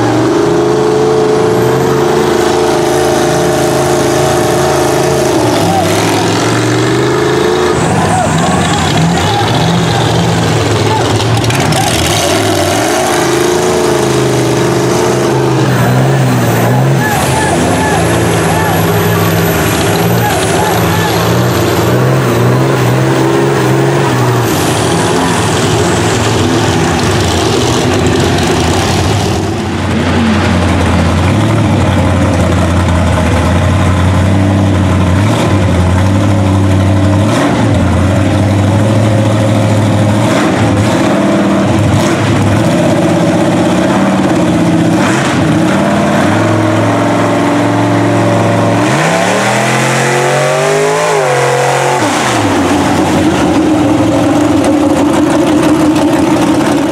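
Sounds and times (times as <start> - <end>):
truck engines revving: 0.0 - 56.9.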